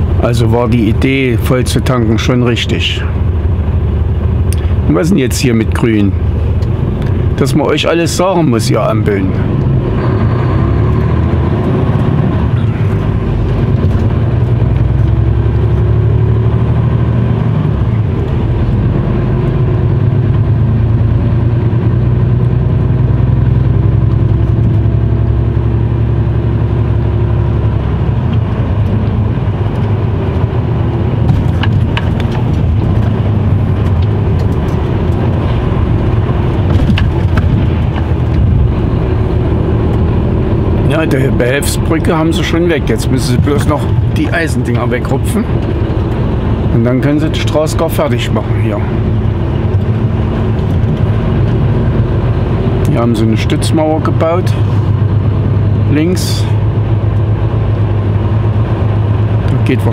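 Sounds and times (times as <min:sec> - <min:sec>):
road noise: 0:00.0 - 0:59.9
truck diesel engine accelerating: 0:00.0 - 0:59.9.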